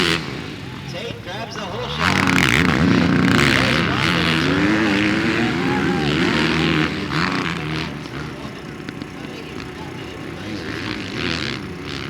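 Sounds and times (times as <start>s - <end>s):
motocross bikes revving past: 0.0s - 12.0s.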